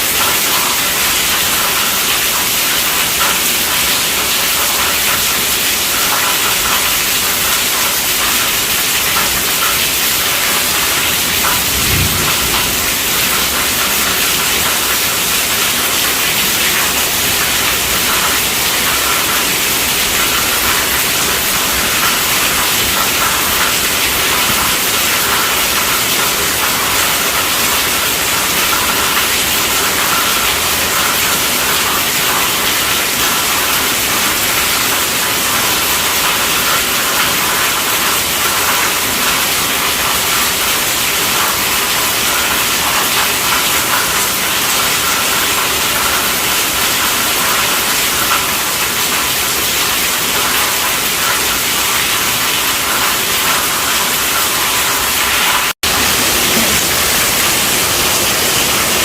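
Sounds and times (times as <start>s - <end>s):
dense rainfall hissing: 0.0s - 59.0s.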